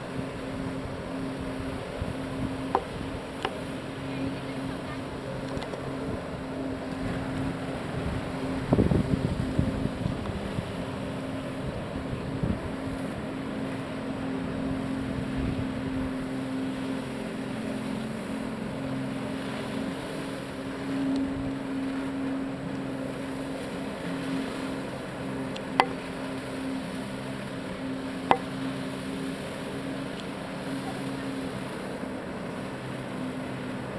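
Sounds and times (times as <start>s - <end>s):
pump engine droning: 0.0s - 33.9s.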